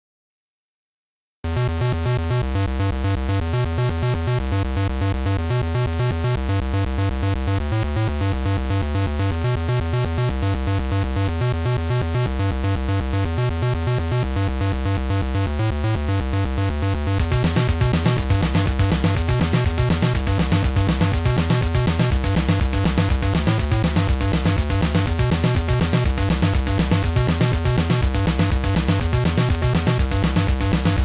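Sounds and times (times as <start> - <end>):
electronic synthesizer music: 1.5 - 31.0.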